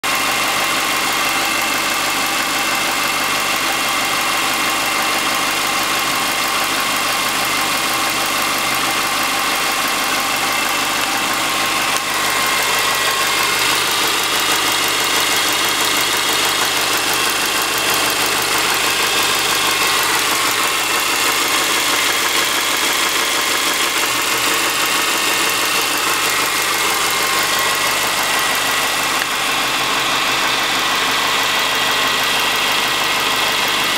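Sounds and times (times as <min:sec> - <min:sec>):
car engine idling: 0:00.0 - 0:33.9
fast even engine knock: 0:00.1 - 0:33.9.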